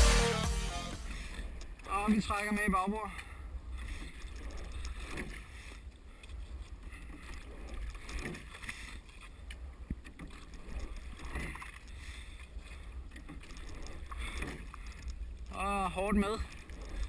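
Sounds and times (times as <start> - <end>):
oars working: 0.0 - 17.0.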